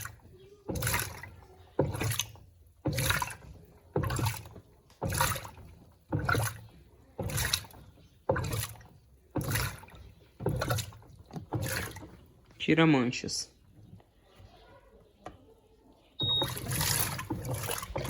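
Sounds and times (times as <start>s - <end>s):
washing machine water sloshing: 0.0s - 14.2s, 16.2s - 18.0s.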